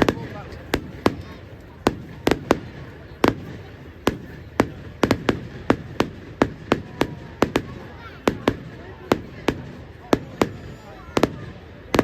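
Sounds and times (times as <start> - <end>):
fireworks banging: 0.0 - 12.0.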